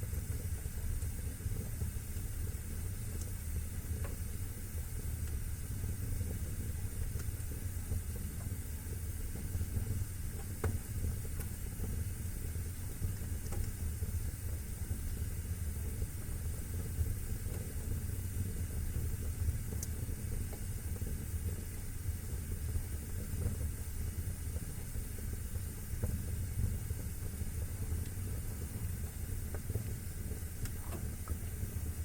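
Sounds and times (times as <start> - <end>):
fire crackles: 0.0 - 32.0
wood fire rumbling and hissing: 0.0 - 32.0.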